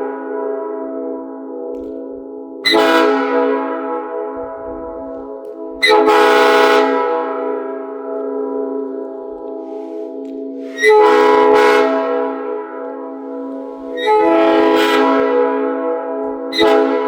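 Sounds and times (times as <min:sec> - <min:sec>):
air horns sounding a chord: 0:02.6 - 0:17.0.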